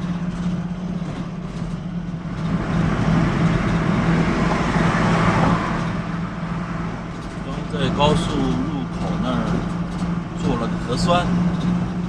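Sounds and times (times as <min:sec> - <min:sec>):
engine drone: 0:00.0 - 0:12.0
road and tyre noise: 0:00.0 - 0:12.0.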